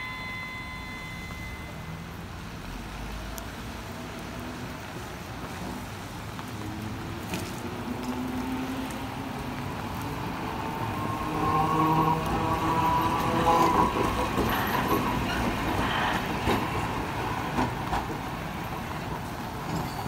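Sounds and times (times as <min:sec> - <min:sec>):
tyres hissing on wet road: 0:01.6 - 0:20.0.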